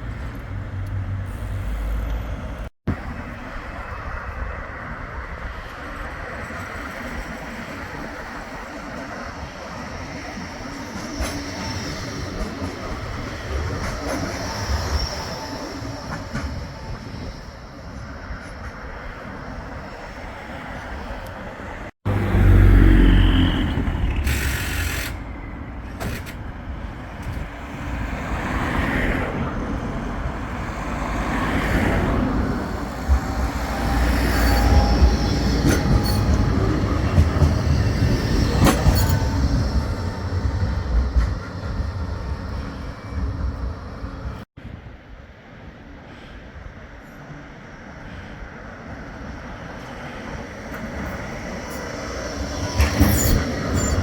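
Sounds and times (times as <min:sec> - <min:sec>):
tram passing rumble: 0:00.0 - 0:54.0
tram wheels on rails: 0:00.0 - 0:54.0.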